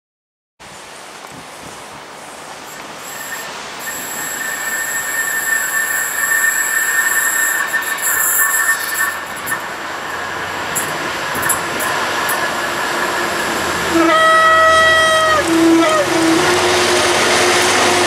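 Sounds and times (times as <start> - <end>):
train rumble: 0.7 - 18.0
high-pitched wheel tone on rails: 2.6 - 18.0.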